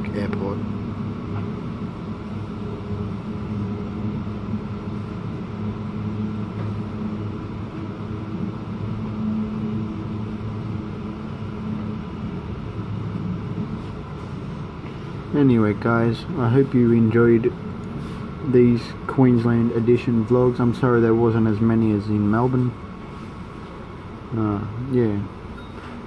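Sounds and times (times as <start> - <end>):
electric train hum and rumble: 0.0 - 26.0.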